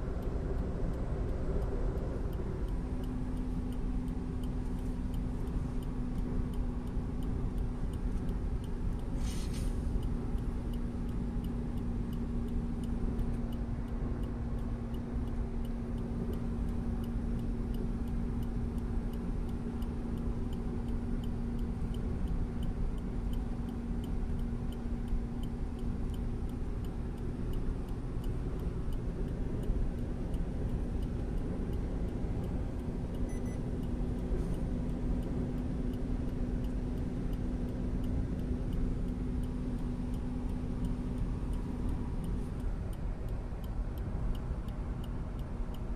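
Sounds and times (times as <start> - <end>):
car engine drone: 0.0 - 45.9
light ticking: 0.0 - 45.9
road rumble: 0.0 - 45.9.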